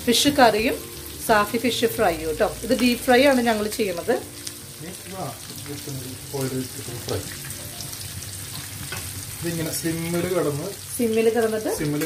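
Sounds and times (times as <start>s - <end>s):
fish deep-frying in oil: 0.0s - 12.0s.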